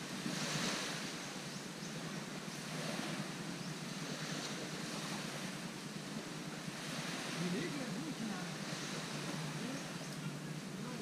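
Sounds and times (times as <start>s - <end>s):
small waves washing onto sand: 0.0s - 11.0s.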